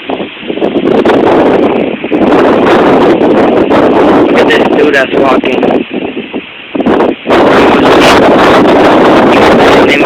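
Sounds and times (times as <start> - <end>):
strong wind on microphone: 0.0 - 10.0.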